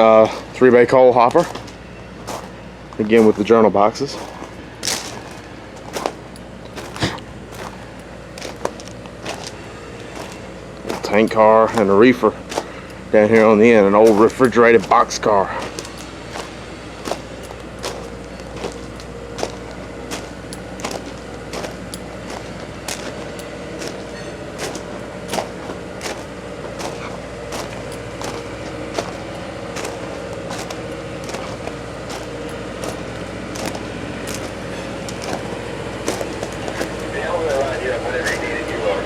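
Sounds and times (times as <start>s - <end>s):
crunching footsteps: 0.0s - 0.6s, 1.2s - 39.0s
low hum: 0.0s - 39.0s.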